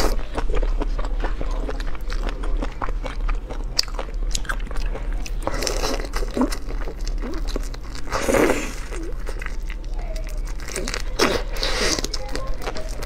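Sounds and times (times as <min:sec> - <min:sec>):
seafood crunching while chewed: 0:00.0 - 0:13.0.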